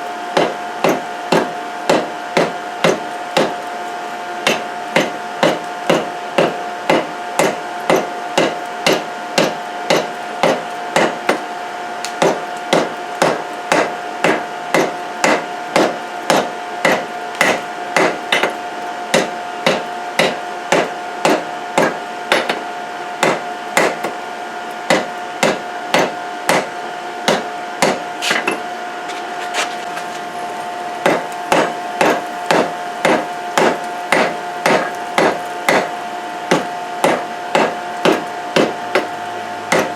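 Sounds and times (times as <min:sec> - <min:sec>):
hammer striking metal on anvil: 0:00.4 - 0:03.6, 0:04.4 - 0:11.4, 0:12.1 - 0:22.6, 0:23.2 - 0:24.2, 0:24.9 - 0:28.6, 0:31.0 - 0:35.9, 0:36.5 - 0:39.9.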